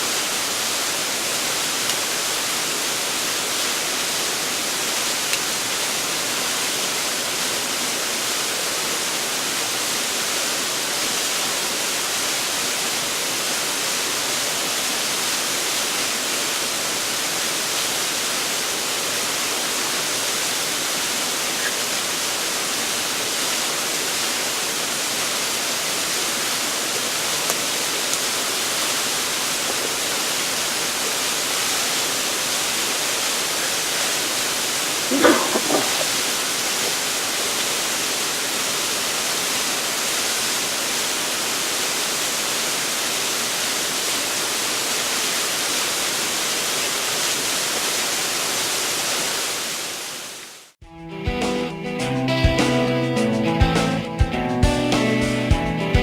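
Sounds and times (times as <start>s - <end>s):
waterfall rushing: 0.0s - 50.8s.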